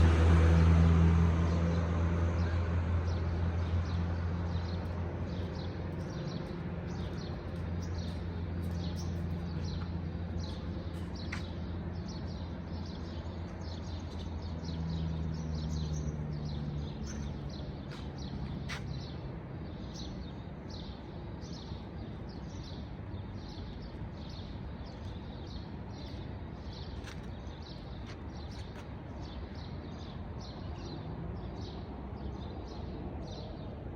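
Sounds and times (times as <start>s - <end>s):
small birds chirping: 3.1s - 33.6s.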